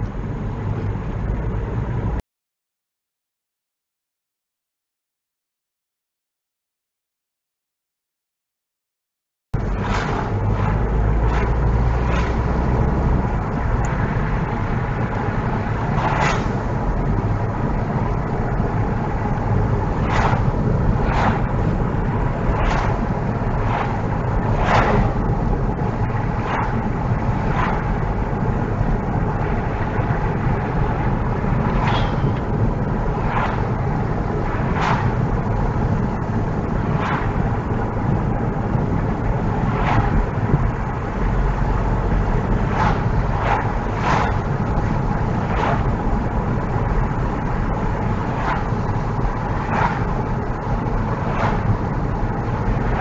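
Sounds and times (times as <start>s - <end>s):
car engine and road rumble: 0.0s - 2.2s, 9.6s - 53.0s.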